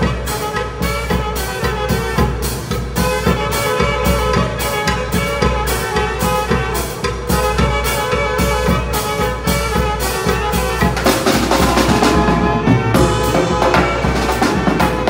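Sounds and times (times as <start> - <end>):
bass drum: 0.0 - 15.0
cymbals: 0.0 - 15.0
saxophone melody: 0.0 - 15.0
snare drums: 0.0 - 15.0.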